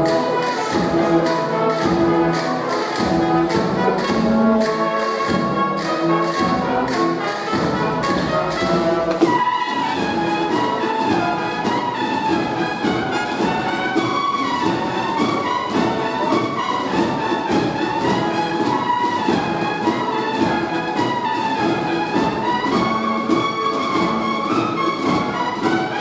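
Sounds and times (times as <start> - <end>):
bugles playing melody: 0.0 - 26.0
drums beating: 0.0 - 26.0.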